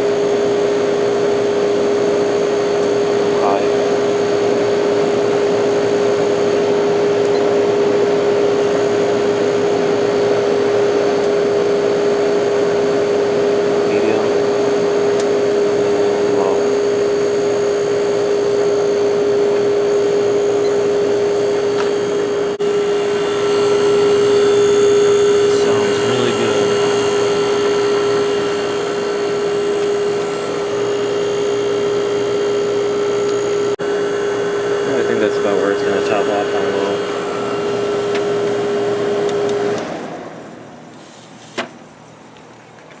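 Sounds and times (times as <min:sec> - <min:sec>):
window air conditioner running: 0:00.0 - 0:43.0.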